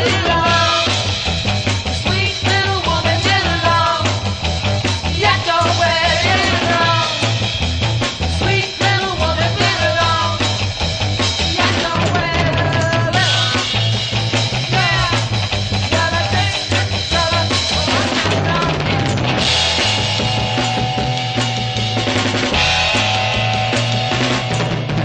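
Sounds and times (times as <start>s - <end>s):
psychedelic rock band playing: 0.0s - 25.0s.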